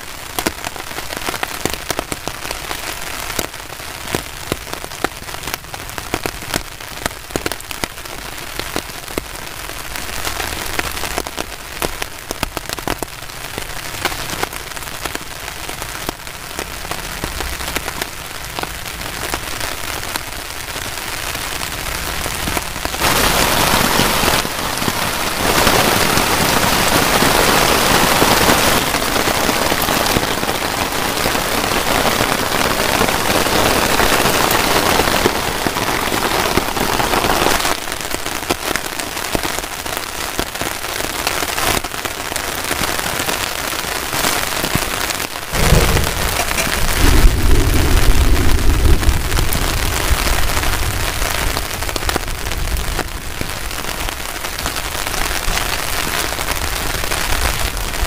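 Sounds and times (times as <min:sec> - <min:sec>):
heavy rain on a tarp: 0:00.0 - 0:58.0.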